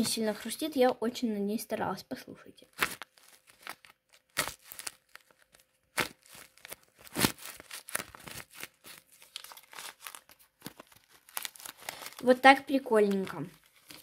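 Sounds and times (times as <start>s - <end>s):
paper crunching and crinkling: 2.7s - 14.0s.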